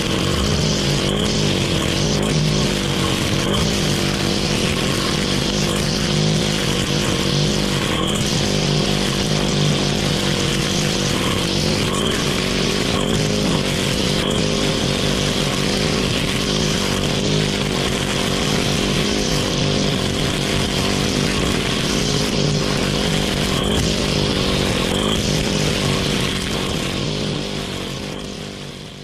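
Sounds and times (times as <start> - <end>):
grass cutter engine running: 0.0 - 29.0.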